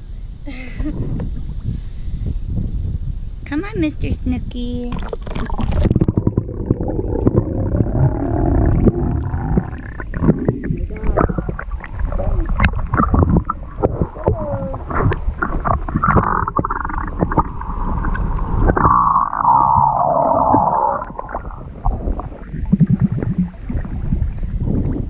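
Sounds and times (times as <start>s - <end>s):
muffled underwater gurgling: 4.6s - 25.0s
water splashing and sloshing: 4.8s - 25.0s.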